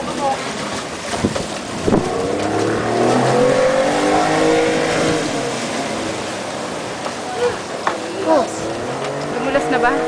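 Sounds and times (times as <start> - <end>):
watercraft engine revving: 0.0 - 10.0
wind and water noise: 0.0 - 10.0.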